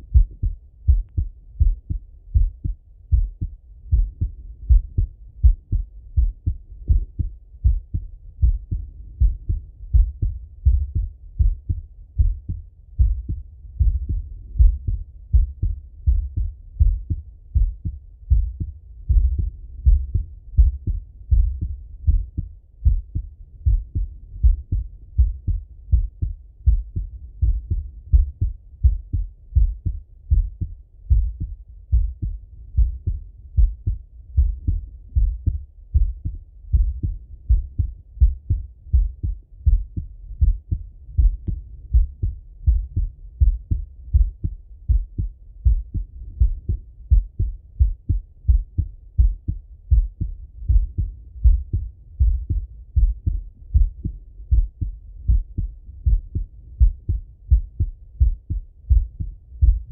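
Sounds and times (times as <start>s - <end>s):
heartbeat through stethoscope: 0.0s - 59.9s.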